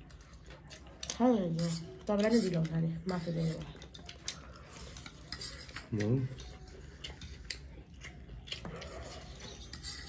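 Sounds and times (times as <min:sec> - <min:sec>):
cutlery clicking and scraping on plates: 0:00.1 - 0:10.0.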